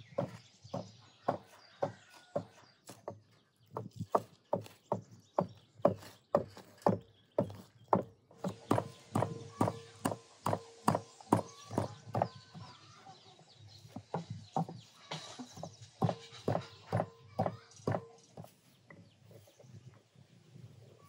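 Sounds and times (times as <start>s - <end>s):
pestle pounding in wooden mortar: 0.0s - 12.8s, 13.8s - 18.5s.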